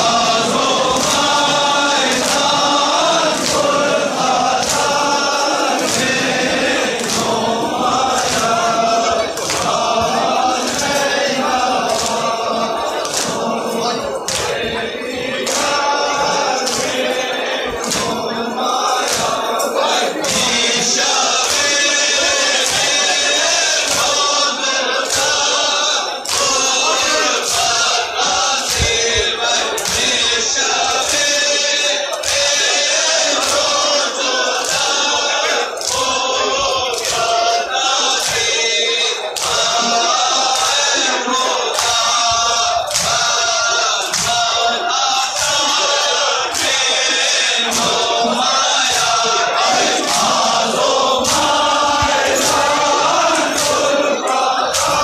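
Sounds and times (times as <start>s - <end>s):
crowd of men chanting: 0.0s - 55.0s.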